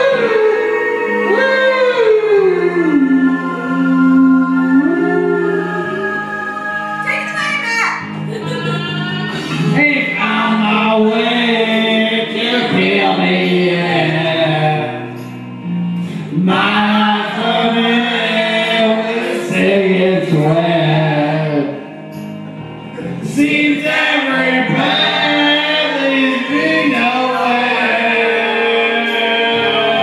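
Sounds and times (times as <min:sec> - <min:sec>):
man singing into a microphone: 0:00.0 - 0:06.6, 0:08.7 - 0:15.2, 0:16.2 - 0:21.9, 0:23.0 - 0:30.0
group singing: 0:00.0 - 0:07.1, 0:08.2 - 0:15.3, 0:16.2 - 0:30.0
music: 0:00.0 - 0:30.0.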